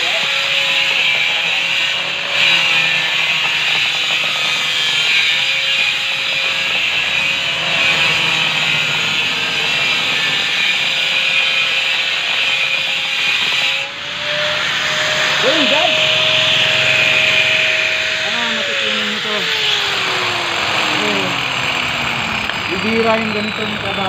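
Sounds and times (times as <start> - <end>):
angle grinder cutting stone: 0.0 - 24.0.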